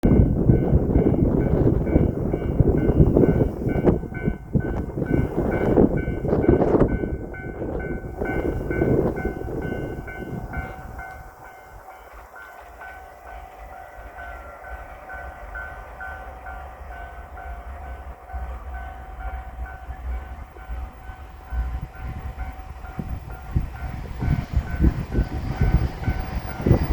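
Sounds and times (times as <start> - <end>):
train wheels clacking: 0.1 - 26.9.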